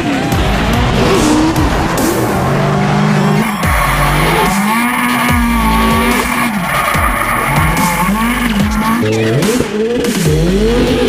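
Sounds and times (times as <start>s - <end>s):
car engine revving: 0.0s - 11.0s
tyres squealing: 0.0s - 11.0s.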